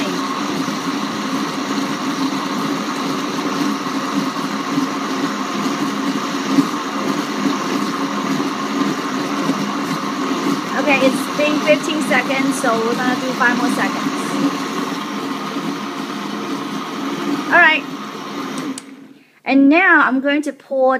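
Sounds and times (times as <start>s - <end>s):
blender motor humming: 0.0s - 19.2s.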